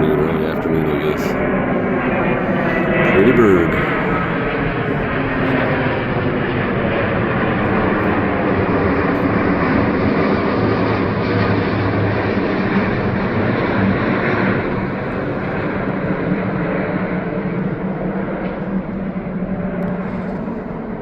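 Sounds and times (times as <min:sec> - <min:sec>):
jet airliner passing: 0:00.0 - 0:21.0
low hum: 0:00.0 - 0:21.0.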